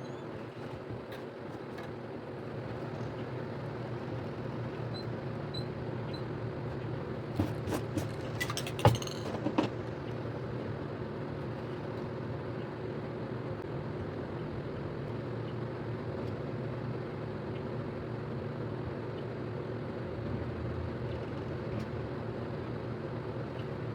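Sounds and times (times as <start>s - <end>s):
steady mechanical hum: 0.0s - 23.9s.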